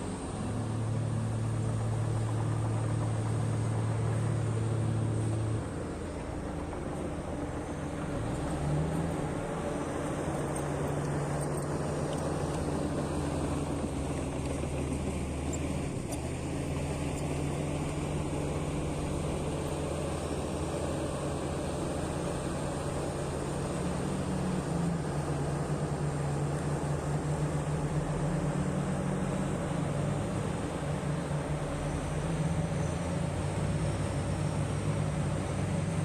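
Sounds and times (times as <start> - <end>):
heavy diesel engine droning: 0.0 - 36.0.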